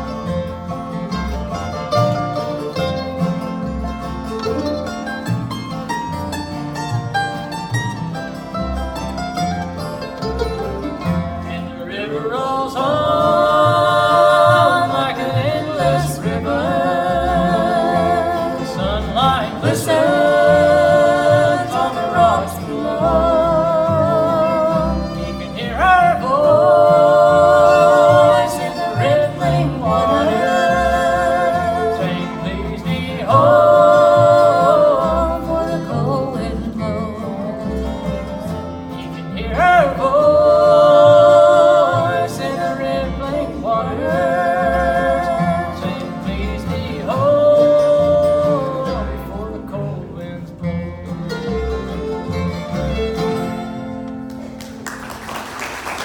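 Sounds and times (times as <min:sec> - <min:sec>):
bluegrass band playing: 0:00.0 - 0:56.0.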